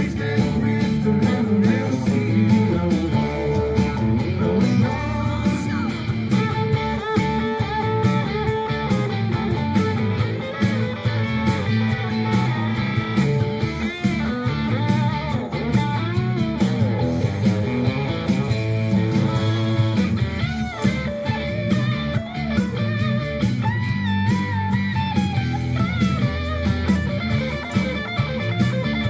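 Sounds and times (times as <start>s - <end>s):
electric guitar lead: 0.0s - 29.0s
rock backing with drums: 0.0s - 29.0s.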